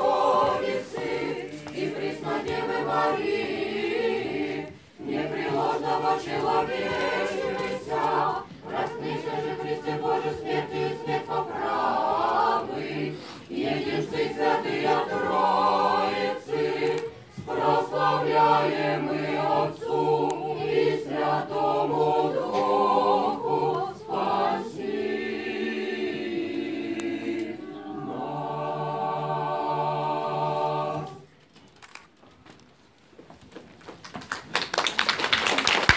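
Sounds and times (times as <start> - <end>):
choir singing a cappella: 0.0 - 31.3.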